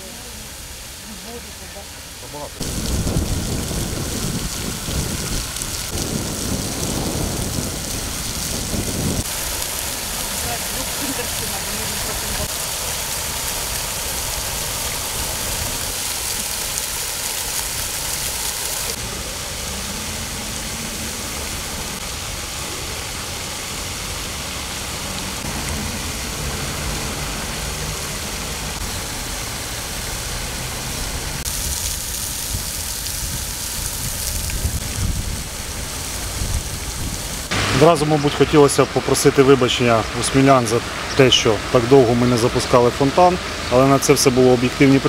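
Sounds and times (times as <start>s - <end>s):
fountain water splashing: 0.0s - 45.0s.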